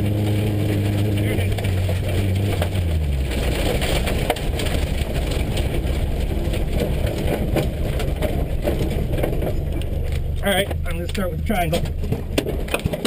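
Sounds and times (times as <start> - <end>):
car engine running low: 0.0 - 13.0
gravel crunching under tires: 0.0 - 13.0.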